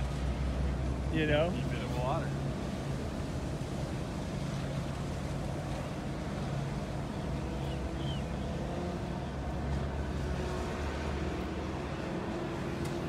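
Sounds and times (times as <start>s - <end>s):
vehicle engines droning: 0.0s - 13.0s.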